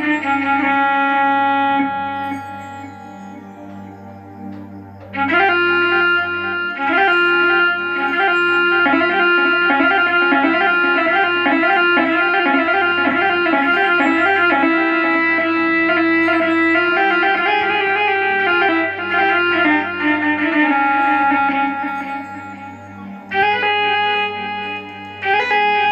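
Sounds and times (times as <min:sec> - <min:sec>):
keyboard playing fiddle melody: 0:00.0 - 0:25.9.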